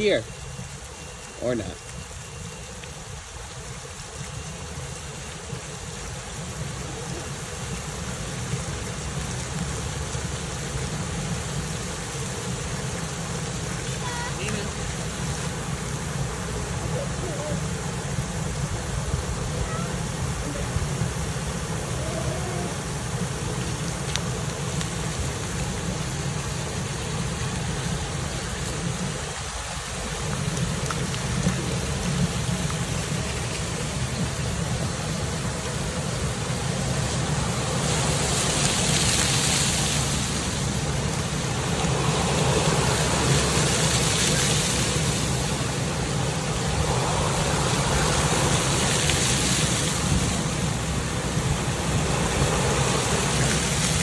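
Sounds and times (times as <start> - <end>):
constant low rumble: 0.0 - 54.0
fountain jets spraying water: 0.0 - 54.0.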